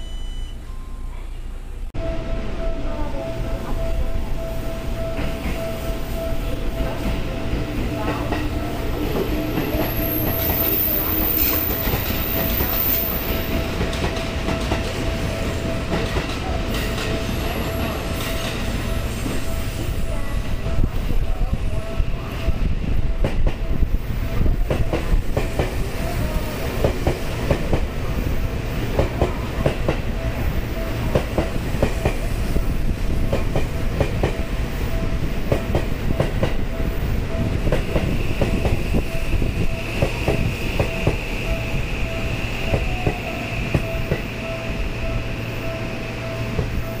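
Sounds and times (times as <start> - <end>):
train rumble: 1.0 - 47.0.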